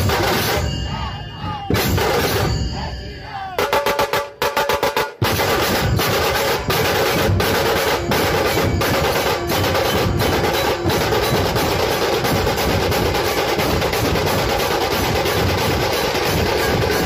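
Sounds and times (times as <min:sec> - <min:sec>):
loud drum-heavy music: 0:00.0 - 0:17.0.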